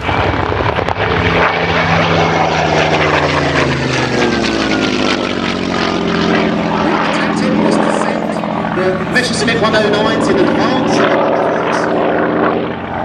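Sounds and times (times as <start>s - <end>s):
propeller plane flying past: 0.0s - 13.0s.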